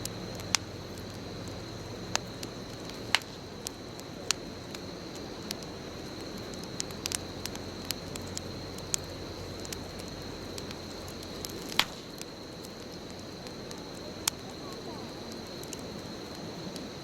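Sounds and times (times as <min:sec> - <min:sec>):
burning wood crackling and popping: 0:00.0 - 0:17.0
rush of flames: 0:00.0 - 0:17.0.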